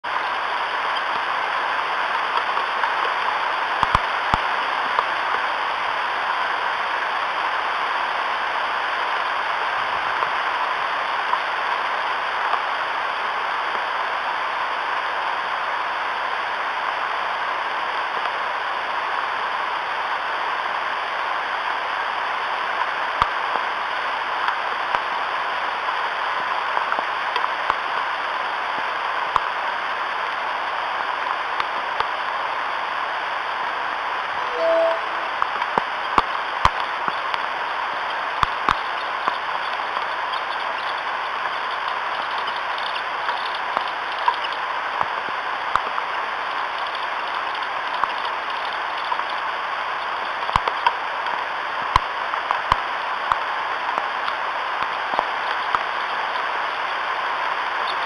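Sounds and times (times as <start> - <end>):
steady rain on leaves: 0.0 - 34.5, 35.2 - 58.0.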